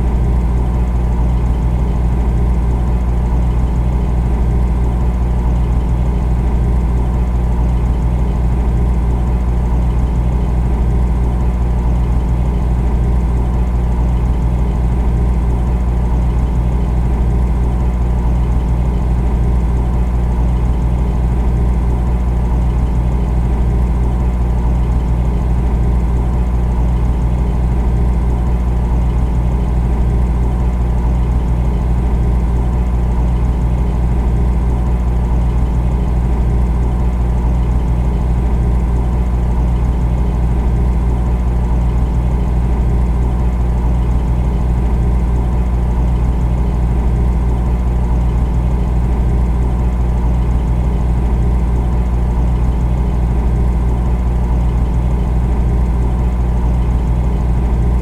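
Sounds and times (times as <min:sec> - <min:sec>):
refrigerator humming: 0:00.0 - 0:58.0.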